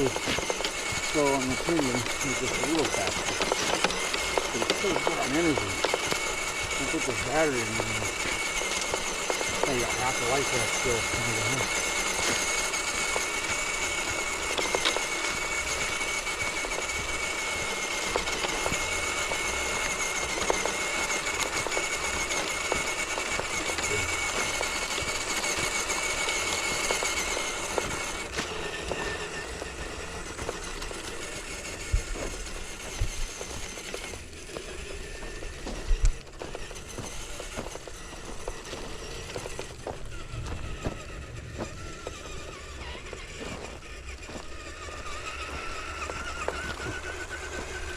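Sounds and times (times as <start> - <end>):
electric motor whining: 0.0 - 47.9.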